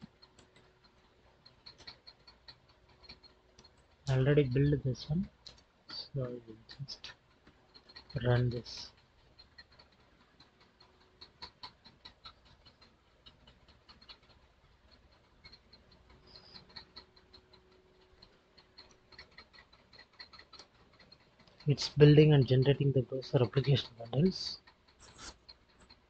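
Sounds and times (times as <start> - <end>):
light ticks and clicks: 0.0 - 26.0.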